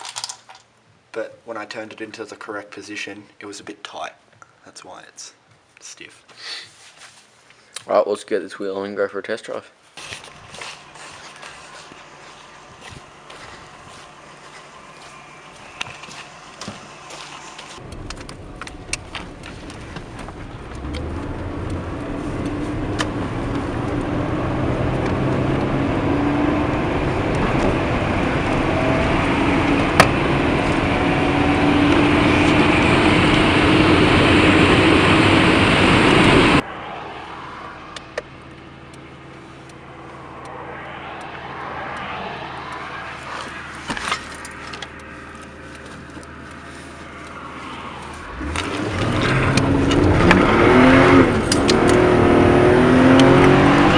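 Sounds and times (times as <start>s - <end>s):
car engine and road noise: 9.8s - 53.9s.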